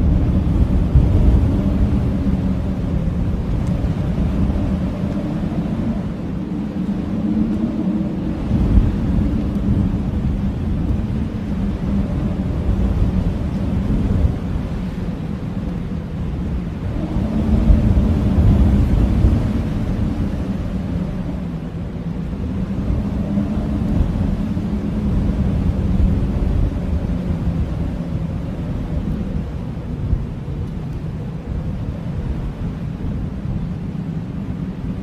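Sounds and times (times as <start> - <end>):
blizzard wind howling: 0.0 - 35.0.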